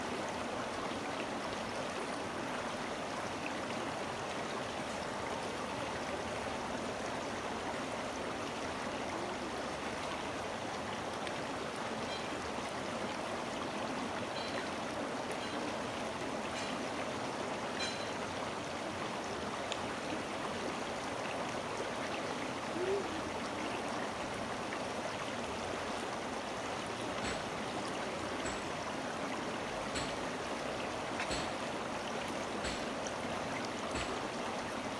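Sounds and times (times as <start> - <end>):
stream rushing and burbling: 0.0 - 34.9.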